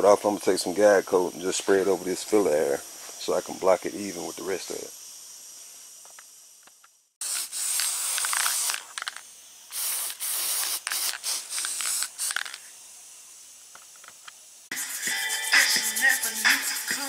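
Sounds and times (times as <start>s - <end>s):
aerosol spray can hissing: 0.8s - 17.0s.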